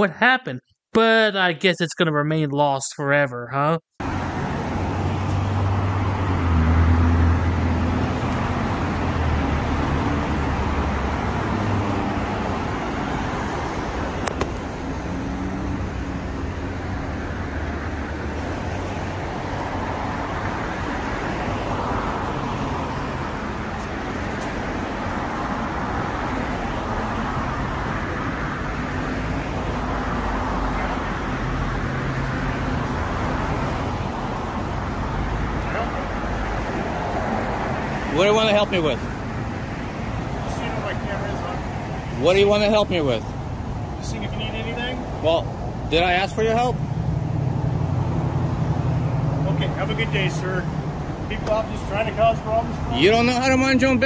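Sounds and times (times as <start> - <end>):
road traffic: 4.0 - 54.0.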